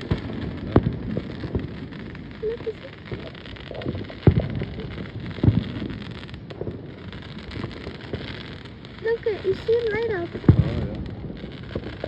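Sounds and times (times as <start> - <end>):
distant fireworks booms: 0.0 - 12.0
wind on microphone: 0.0 - 12.0.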